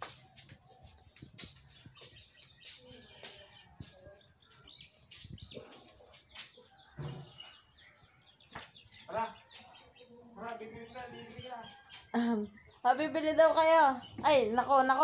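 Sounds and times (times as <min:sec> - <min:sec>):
faint bird chirps: 0:00.0 - 0:14.6.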